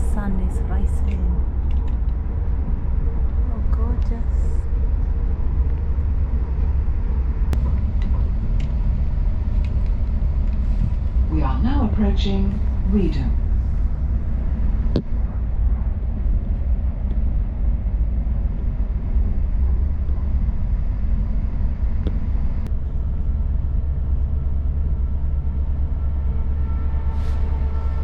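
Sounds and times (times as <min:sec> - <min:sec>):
faint whining tone: 0:00.0 - 0:28.0
train rumbling inside carriage: 0:00.0 - 0:28.0.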